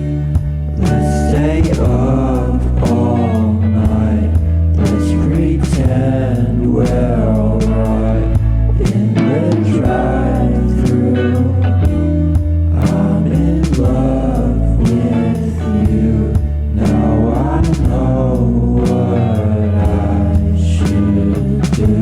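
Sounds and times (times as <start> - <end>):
song with beat and bass: 0.0 - 22.0.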